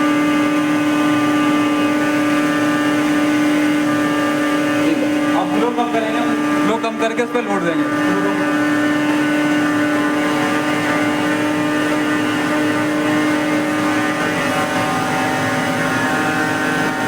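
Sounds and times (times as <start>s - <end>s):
hydraulic pump whining drone: 0.0s - 17.0s.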